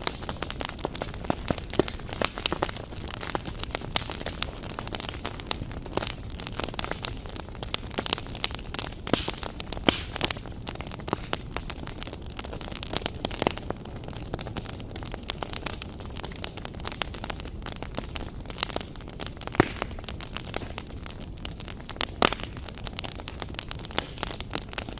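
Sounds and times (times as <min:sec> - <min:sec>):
fire crackling in a fireplace: 0:00.0 - 0:24.9
fire popping: 0:00.0 - 0:24.9.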